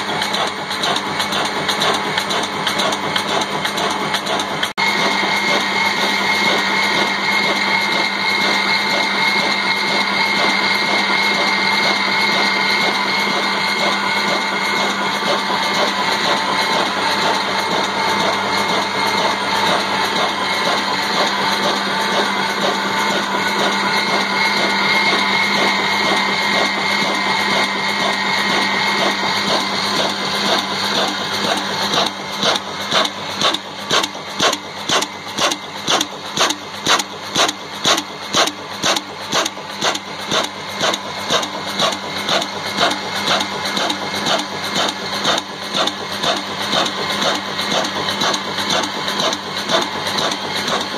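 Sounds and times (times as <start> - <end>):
constant mechanical whine: 0.0 - 50.9
diesel engine clattering: 0.0 - 50.9.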